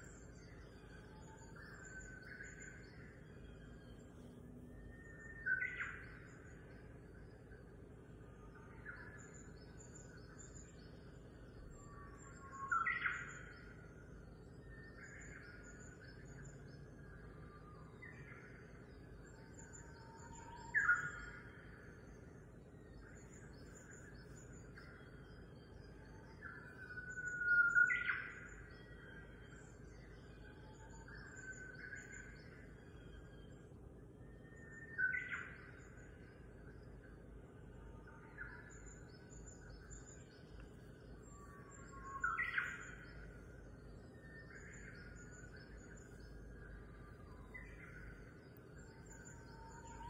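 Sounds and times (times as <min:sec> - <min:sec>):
birds twittering: 0:00.0 - 0:50.0.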